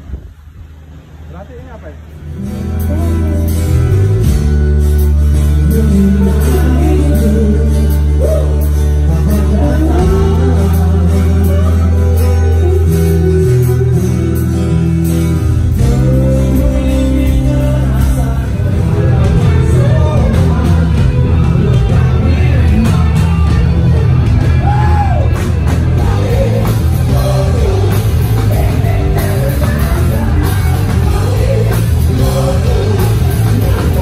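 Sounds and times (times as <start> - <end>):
electric bass: 0.0 - 34.0
drums: 2.0 - 34.0
electric guitars: 2.0 - 34.0
person singing: 2.9 - 24.0, 25.9 - 34.0.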